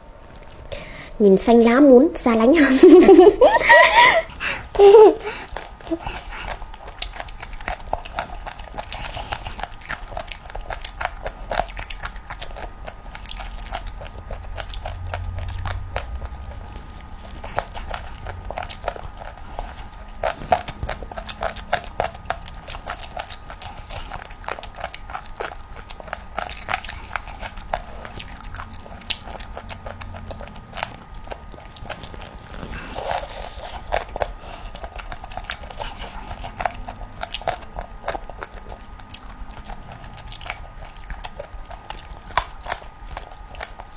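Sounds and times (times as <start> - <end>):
chewing and gnawing: 0.0 - 1.1, 2.6 - 43.9.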